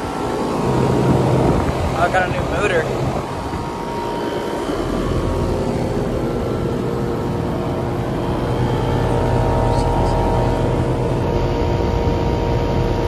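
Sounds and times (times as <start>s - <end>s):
condenser fan rushing air: 0.0s - 13.0s
steady hum: 0.0s - 13.0s.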